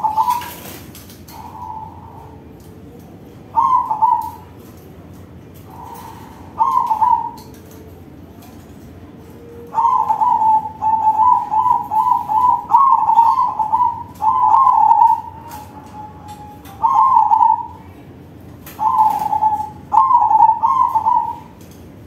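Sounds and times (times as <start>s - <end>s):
dove cooing song: 0.0s - 21.8s.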